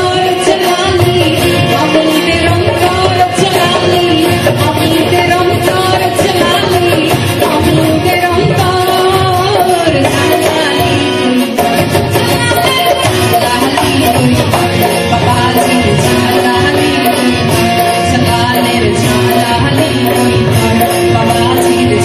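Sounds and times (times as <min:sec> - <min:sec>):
live band music: 0:00.0 - 0:22.0
woman singing into a microphone: 0:00.0 - 0:22.0.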